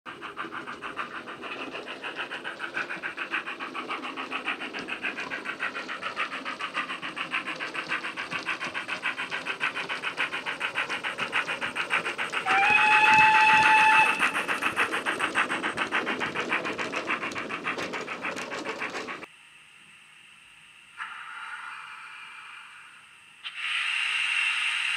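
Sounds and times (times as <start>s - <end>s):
steam locomotive chuffs from small speaker: 0.1s - 19.3s, 20.9s - 24.9s.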